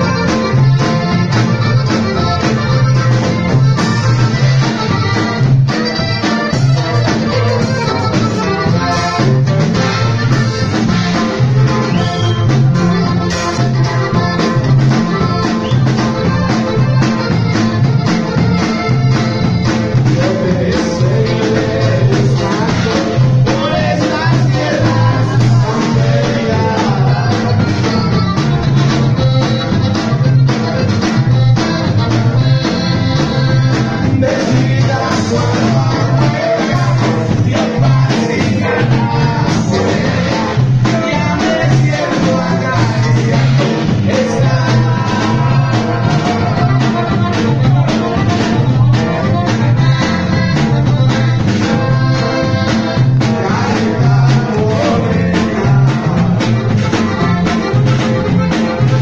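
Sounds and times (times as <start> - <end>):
accordion melody: 0.0 - 59.0
pulsing bass line: 0.0 - 59.0.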